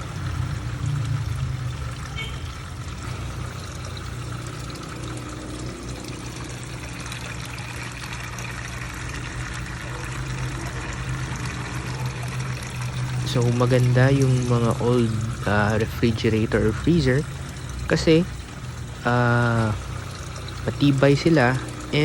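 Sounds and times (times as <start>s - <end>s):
water pouring and trickling: 0.0s - 22.0s.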